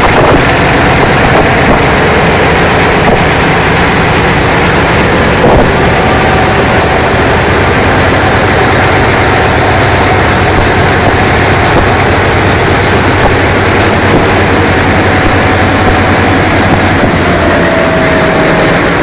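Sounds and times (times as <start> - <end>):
diesel engine clattering: 0.0 - 19.0.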